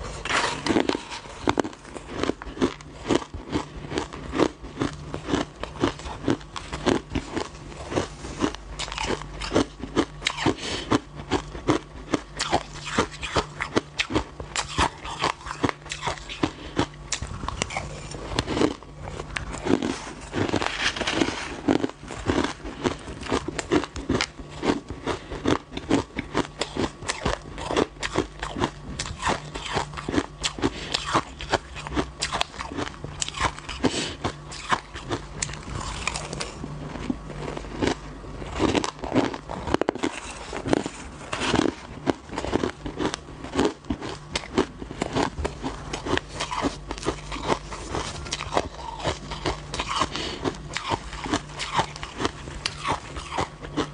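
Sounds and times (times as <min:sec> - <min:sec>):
ice crunching between teeth: 0:00.0 - 0:53.9.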